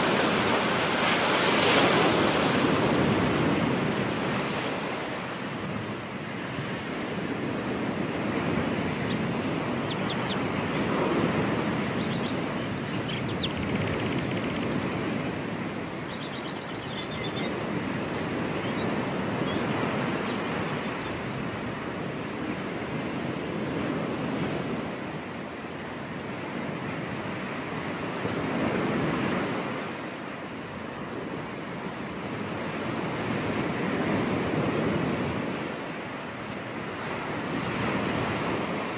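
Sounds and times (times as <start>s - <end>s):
ocean surf washing on beach: 0.0s - 38.9s.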